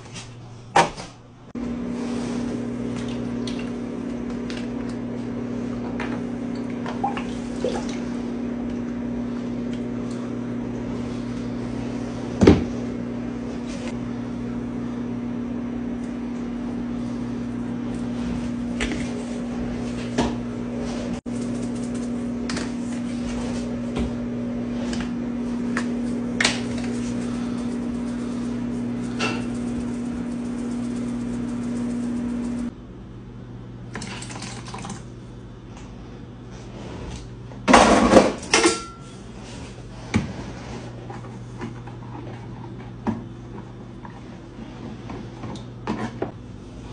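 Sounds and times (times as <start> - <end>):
microwave oven humming: 0.0 - 46.9.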